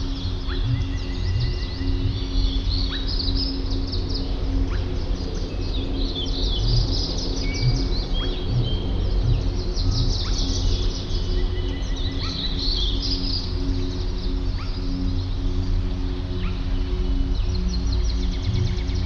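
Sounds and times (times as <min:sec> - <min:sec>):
whistled bird notes: 0:00.0 - 0:15.4
birds chirping: 0:00.0 - 0:19.0
steady low hum: 0:00.0 - 0:19.0.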